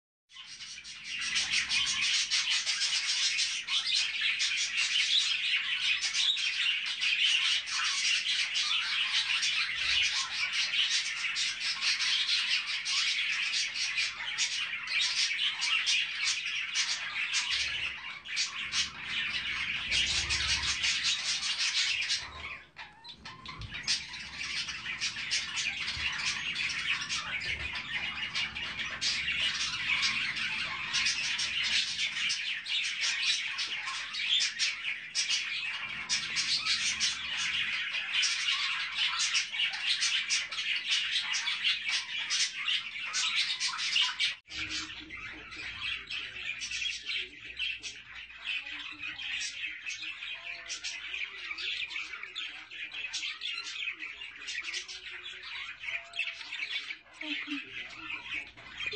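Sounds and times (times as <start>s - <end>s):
budgerigars chattering and chirping: 0.4s - 58.9s.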